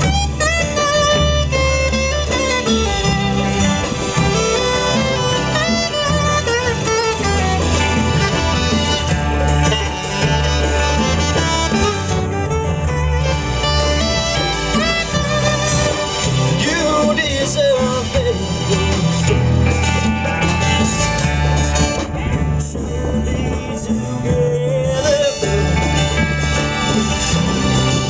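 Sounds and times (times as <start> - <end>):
saxophone melody: 0.0 - 22.1, 25.2 - 28.0
electric bass notes: 0.0 - 28.0
guitar: 0.0 - 28.0
percussion: 0.0 - 28.0.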